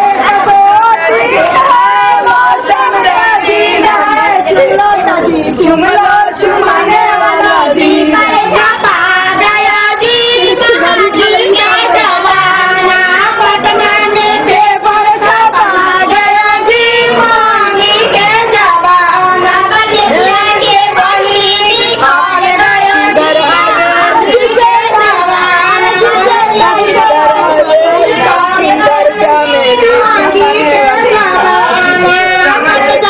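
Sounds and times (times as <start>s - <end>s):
woman singing with vibrato: 0.0s - 33.0s.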